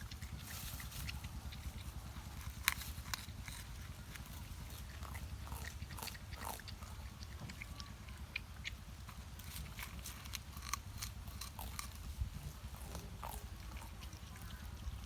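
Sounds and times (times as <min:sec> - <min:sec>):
porcupine gnawing bamboo: 0:00.0 - 0:15.0.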